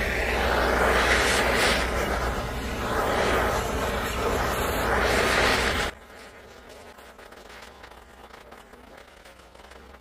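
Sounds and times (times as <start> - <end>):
gas torch flame blowing: 0.0 - 8.0
faint crackle: 0.0 - 10.0.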